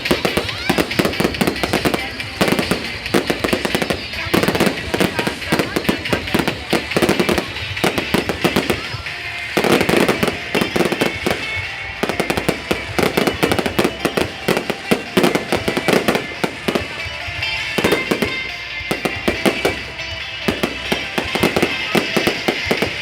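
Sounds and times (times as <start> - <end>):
fireworks crackle: 0.0 - 23.0
fireworks cracks and bangs: 0.0 - 23.0
music playing: 0.0 - 23.0.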